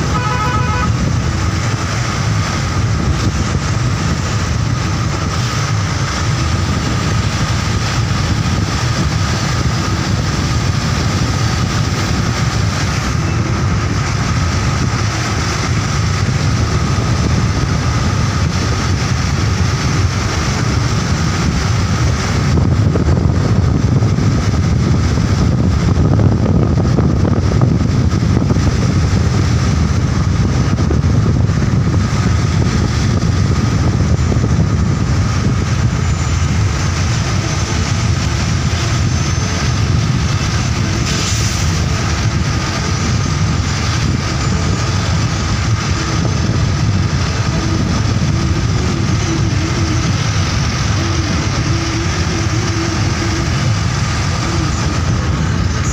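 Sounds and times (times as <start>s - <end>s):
vehicle engine running: 0.0s - 55.9s
wind rumble on microphone: 0.0s - 55.9s.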